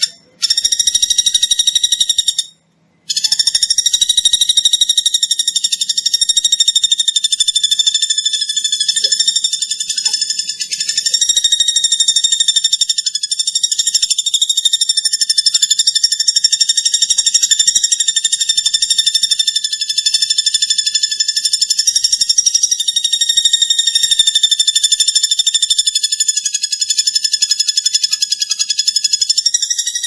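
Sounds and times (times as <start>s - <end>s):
woodpecker rattling trill: 0.0s - 30.0s.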